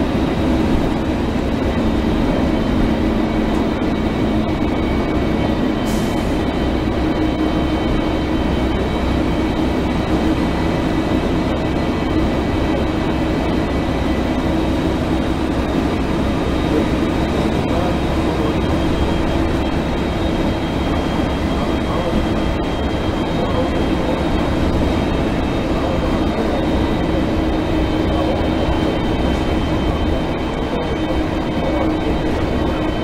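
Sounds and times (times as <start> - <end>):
diesel bus engine idling: 0.0 - 33.0
thin steady whine: 0.0 - 33.0.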